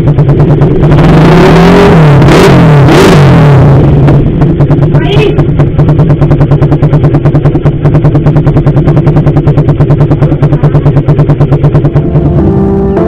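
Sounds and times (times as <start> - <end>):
motorcycle engine idling loudly: 0.0 - 12.6.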